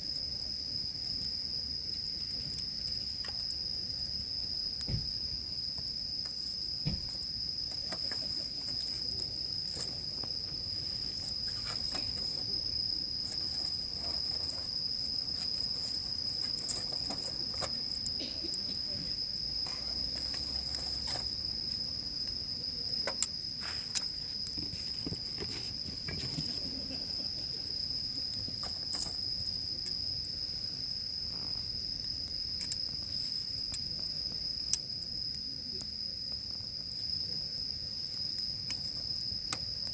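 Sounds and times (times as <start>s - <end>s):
insects trilling: 0.0s - 39.9s
campfire crackling and popping: 0.1s - 39.9s.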